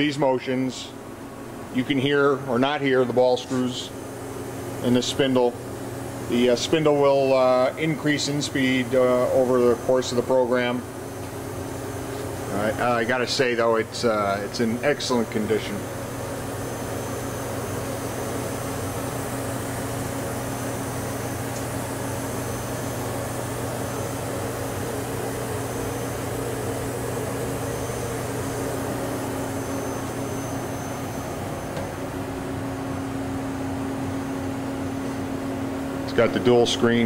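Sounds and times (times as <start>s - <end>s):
machine hum with low tone: 0.0s - 37.0s.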